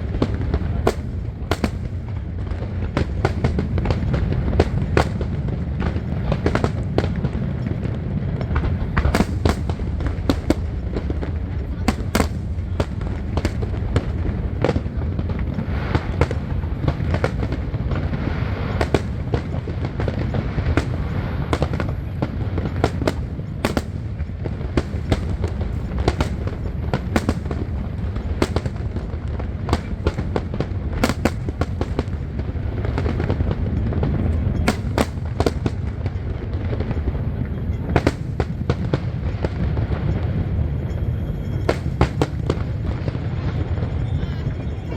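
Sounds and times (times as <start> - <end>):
continuous low rumble: 0.0 - 44.9
fireworks bangs and crackles: 0.0 - 44.9.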